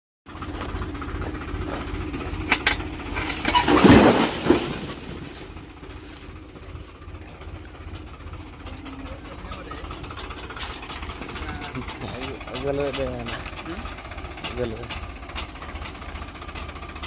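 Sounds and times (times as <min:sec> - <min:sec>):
tractor engine running: 0:00.3 - 0:17.0.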